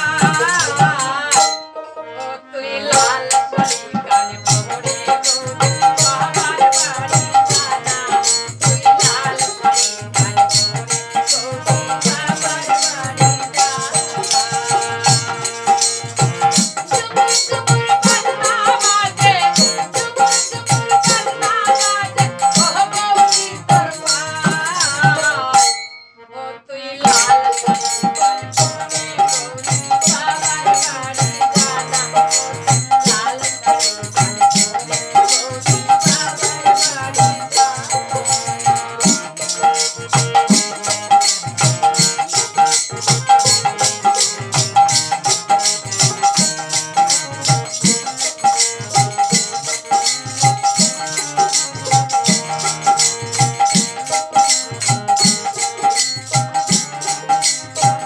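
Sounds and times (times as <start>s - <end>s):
harmonium chords: 0.0s - 58.0s
woman singing: 0.0s - 58.0s.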